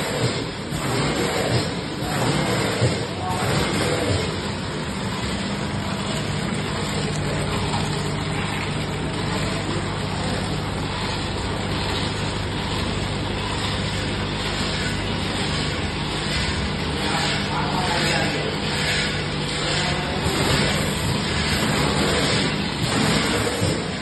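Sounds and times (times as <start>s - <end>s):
packing machine humming: 0.0s - 24.0s.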